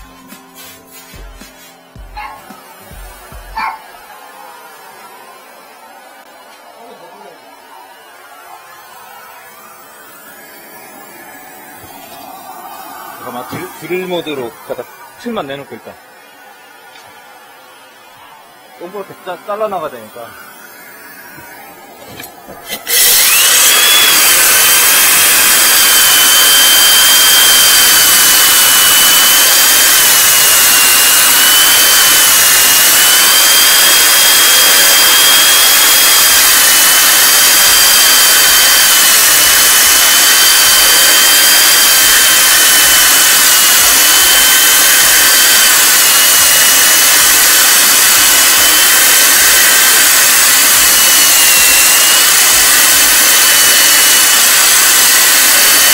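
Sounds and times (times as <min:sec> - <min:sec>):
vacuum cleaner running: 0:00.0 - 0:55.9
core drill whining into masonry: 0:02.0 - 0:55.9.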